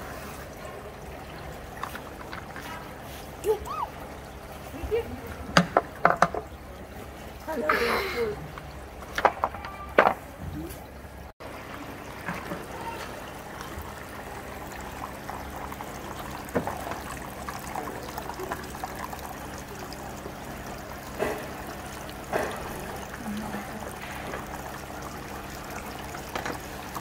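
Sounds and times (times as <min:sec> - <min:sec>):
fountain water trickling and splashing: 0:00.0 - 0:09.3, 0:10.7 - 0:27.0.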